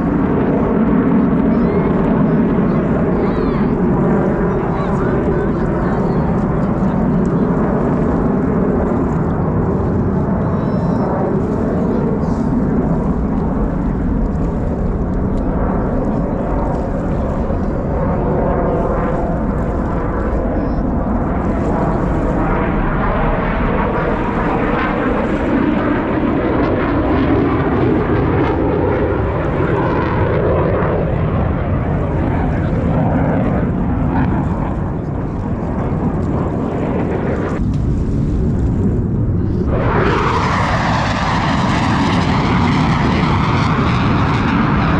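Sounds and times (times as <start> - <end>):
jets flying over: 0.0 - 44.9.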